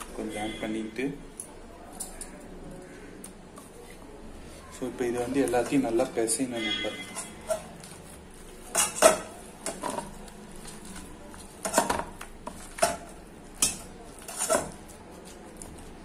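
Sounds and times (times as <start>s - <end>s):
hand kneading wet mixture: 1.7s - 16.0s.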